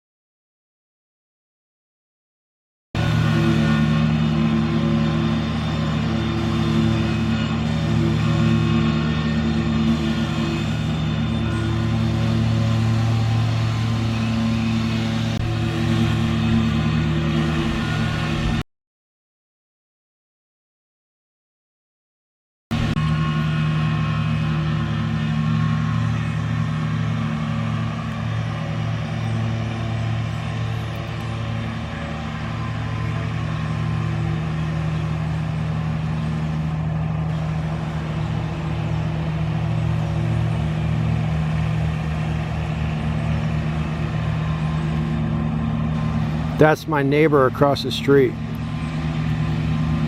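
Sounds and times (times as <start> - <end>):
engine running steadily: 3.0 - 18.6, 22.7 - 50.0.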